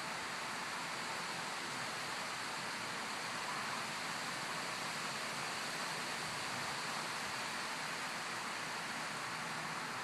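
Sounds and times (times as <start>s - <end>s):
strong wind rustling through trees: 0.0s - 10.0s.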